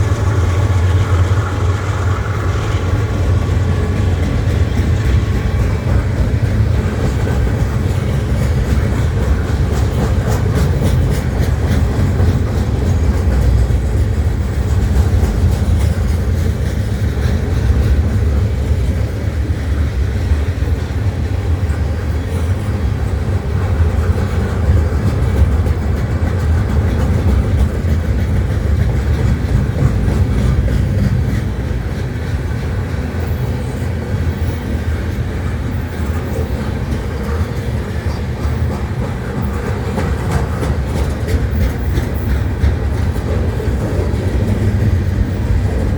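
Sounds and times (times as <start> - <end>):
freight train wheels rumbling: 0.0 - 45.9.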